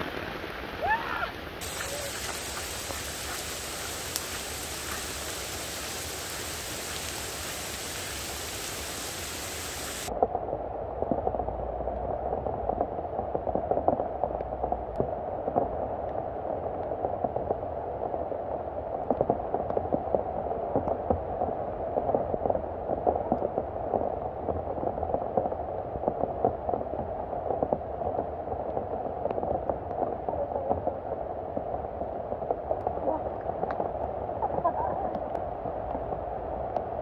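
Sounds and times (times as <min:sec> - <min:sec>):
heavy rain pouring: 0:00.0 - 0:10.1, 0:12.3 - 0:37.0
muffled raindrop patter: 0:00.0 - 0:37.0.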